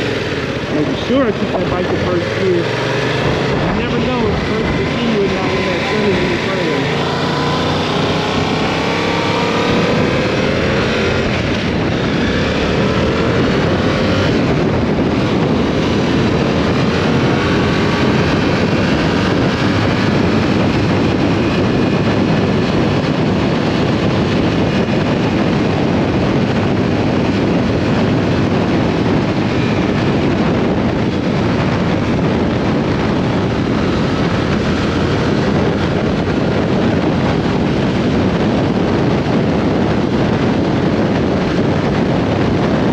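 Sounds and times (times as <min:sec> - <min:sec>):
motorcycle engine revving: 0:00.0 - 0:42.9
wind rush over microphone: 0:00.0 - 0:42.9.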